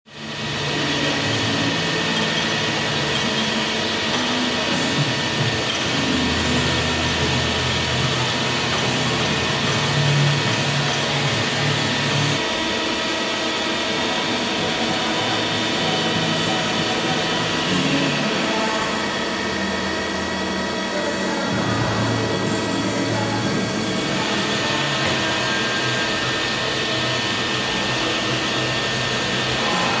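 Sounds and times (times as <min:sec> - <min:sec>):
machine tool whirring: 0:00.1 - 0:30.0.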